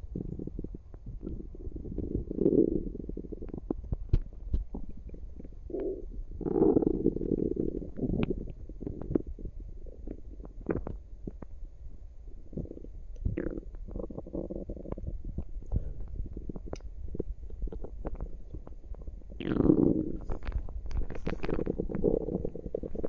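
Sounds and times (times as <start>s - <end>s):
stomach gurgling: 0.0s - 11.6s, 12.3s - 23.0s.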